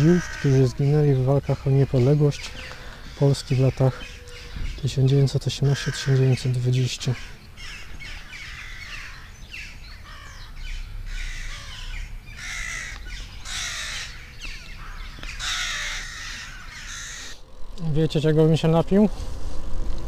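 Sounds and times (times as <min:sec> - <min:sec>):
crows cawing: 0:00.0 - 0:17.6
birds calling: 0:00.0 - 0:19.0.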